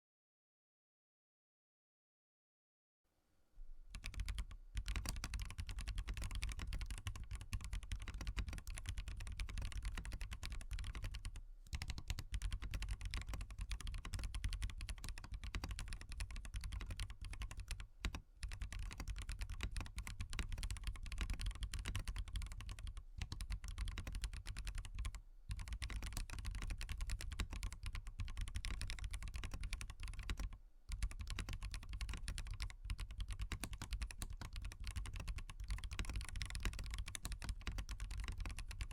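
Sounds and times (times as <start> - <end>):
mechanical keyboard typing: 3.9 - 38.9.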